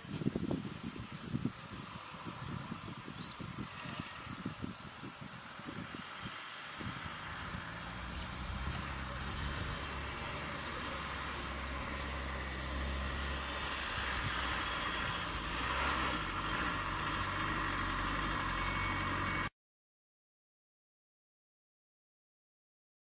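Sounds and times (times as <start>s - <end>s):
vehicle engine humming: 0.0s - 19.5s.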